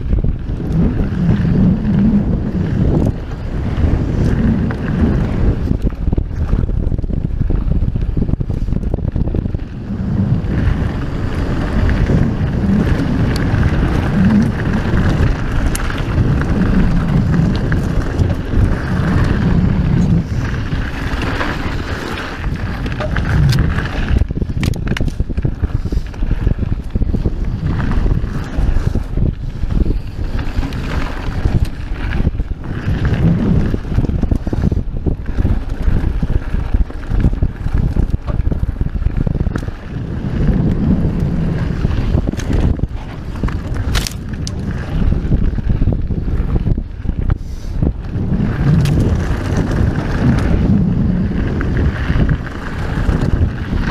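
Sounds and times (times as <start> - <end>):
tyres rolling on gravel trail: 0.0 - 53.9
wind buffeting microphone: 0.0 - 53.9
bike knocks and rattles: 2.8 - 47.3.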